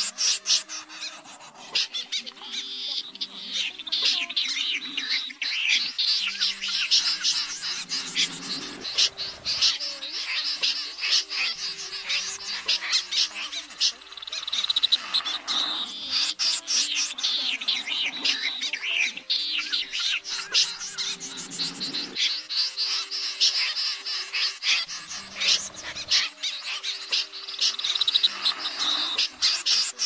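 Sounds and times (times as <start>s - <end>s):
birds rasping chips: 0.0s - 30.0s.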